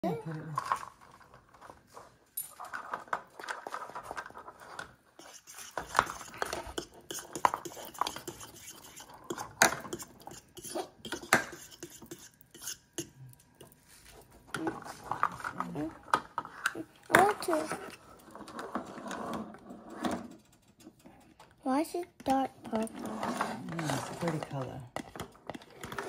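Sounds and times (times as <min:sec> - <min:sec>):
utensil clinking and scraping bowl: 0:02.4 - 0:21.4, 0:22.2 - 0:26.0.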